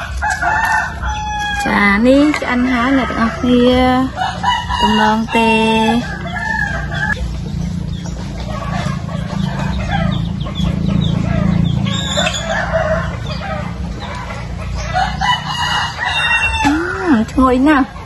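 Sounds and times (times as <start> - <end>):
chickens clucking and calling: 0.0 - 18.0.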